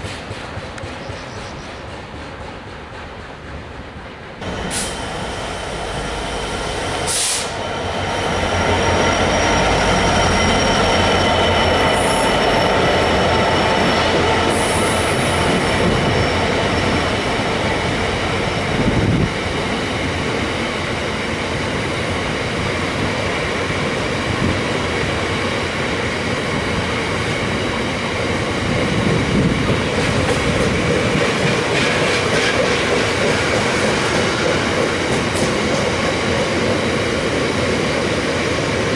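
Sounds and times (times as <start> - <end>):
diesel locomotive engine: 0.0 - 38.9.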